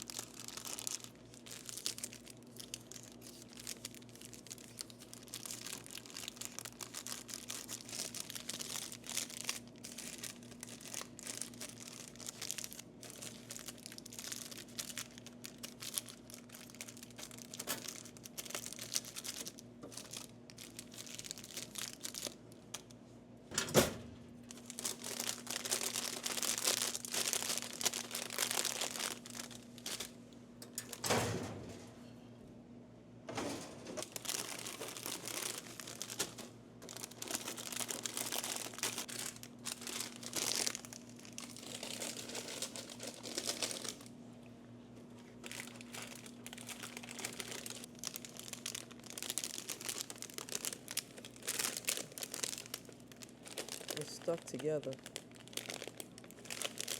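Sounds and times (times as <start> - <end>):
packaging tearing: 0.0 - 22.9, 24.5 - 30.1, 34.0 - 44.1, 45.4 - 56.9
plastic wrappers crinkling: 0.0 - 23.0, 24.4 - 31.1, 33.8 - 44.2, 45.1 - 56.9.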